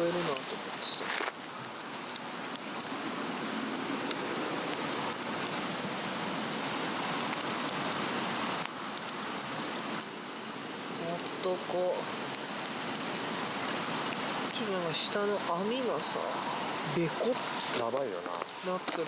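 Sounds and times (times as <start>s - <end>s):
fire crackles: 0.0s - 19.0s
flames rushing hiss: 0.0s - 19.0s.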